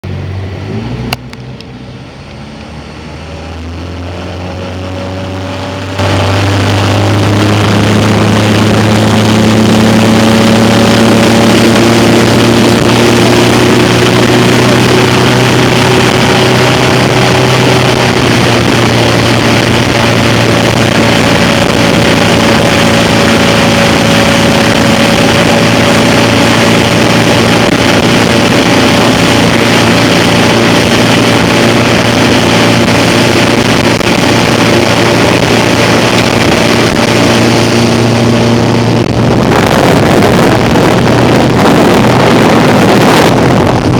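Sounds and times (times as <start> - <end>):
jet ski engine running: 0.0 - 43.9
loud rushing noise: 2.4 - 43.9.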